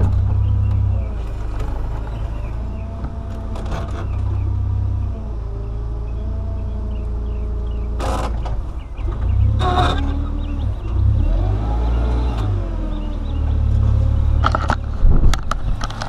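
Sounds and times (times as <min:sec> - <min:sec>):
forklift rumble and hydraulic whine: 0:00.0 - 0:16.0.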